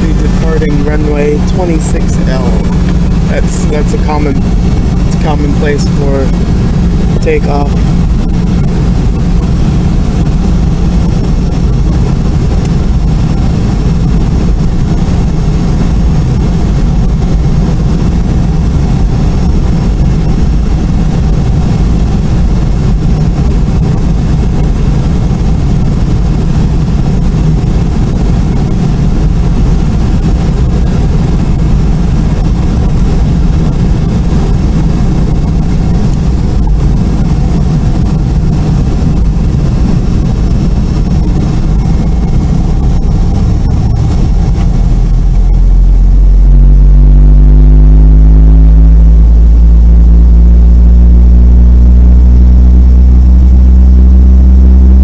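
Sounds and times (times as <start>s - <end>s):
high thin engine whine: 0.0s - 55.0s
jet engines rumbling in cabin: 0.0s - 55.0s.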